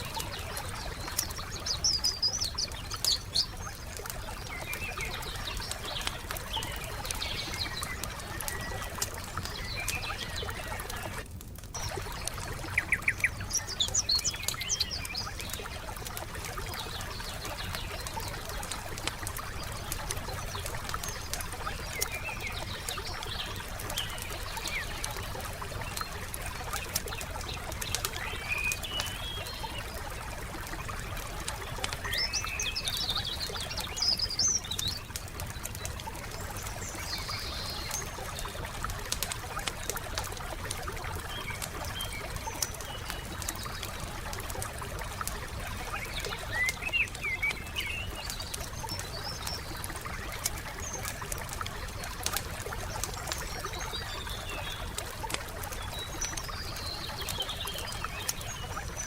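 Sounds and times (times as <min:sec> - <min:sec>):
songbirds chirping: 0:00.0 - 0:59.0
wood fire crackling: 0:00.0 - 0:59.0.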